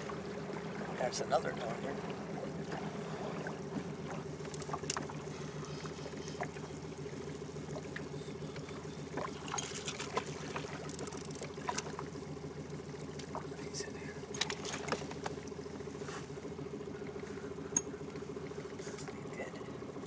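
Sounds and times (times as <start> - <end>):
outboard motor humming: 0.0 - 20.0
water splashing against hull: 0.0 - 20.0.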